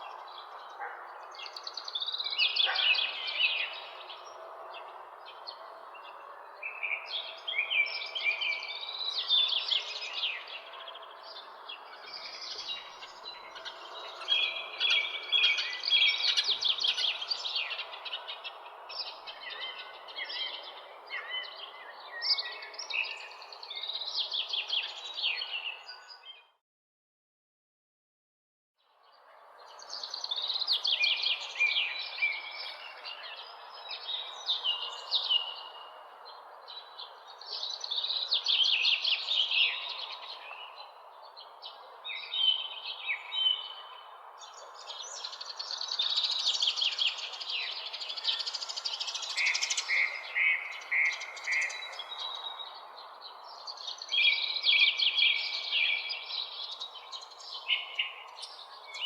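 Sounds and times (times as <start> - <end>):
songbirds chirping and trilling: 0.0 - 26.6, 28.8 - 59.0.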